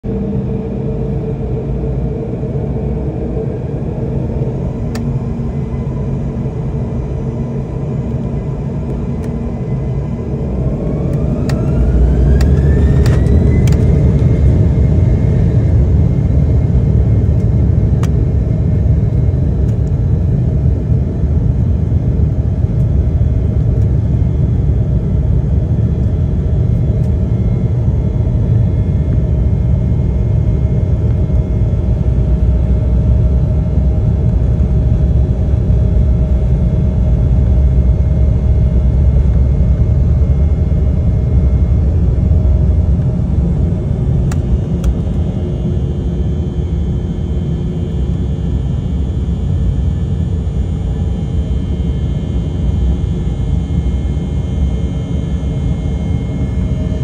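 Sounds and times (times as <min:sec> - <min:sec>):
jet engine whine: 0:00.0 - 0:57.0
jet engines rumbling: 0:00.0 - 0:57.0.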